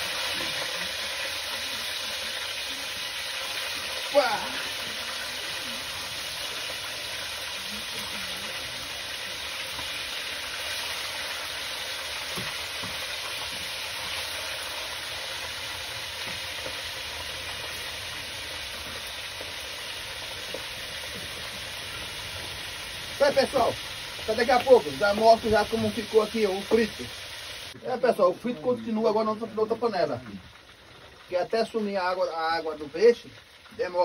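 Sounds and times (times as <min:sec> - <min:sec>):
fish deep-frying sizzle: 0:00.0 - 0:34.0.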